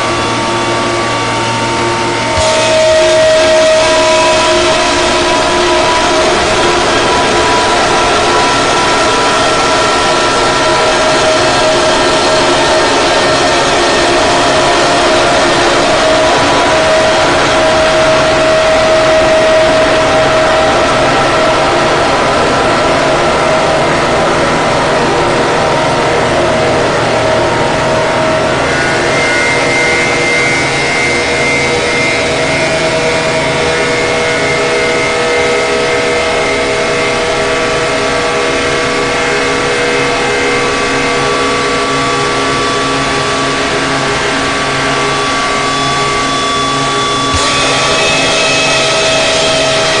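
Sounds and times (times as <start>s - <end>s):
harsh noise drone music: 0.0s - 50.0s.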